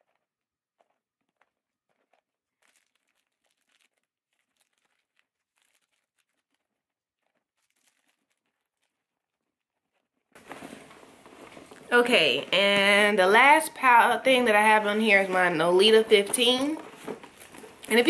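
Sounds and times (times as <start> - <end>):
packaging crinkling and rustling: 0.0 - 12.5, 14.8 - 18.0.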